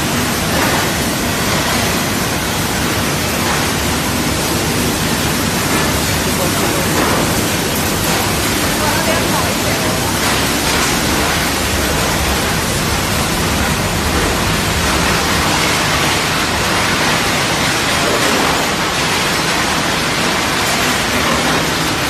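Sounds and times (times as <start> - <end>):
machinery hissing and rumbling: 0.0 - 22.0.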